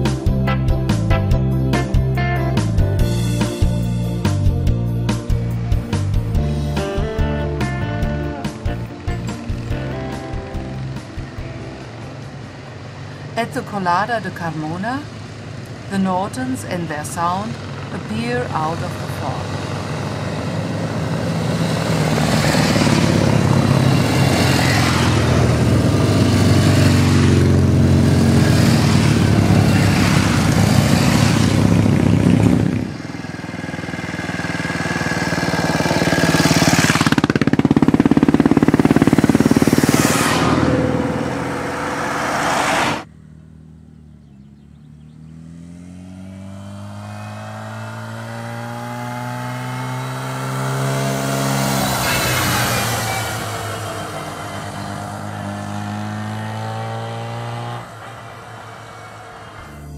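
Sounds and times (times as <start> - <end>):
motorcycle approaching with rising pitch: 0.0 - 59.9
motorcycles riding past: 2.6 - 59.9.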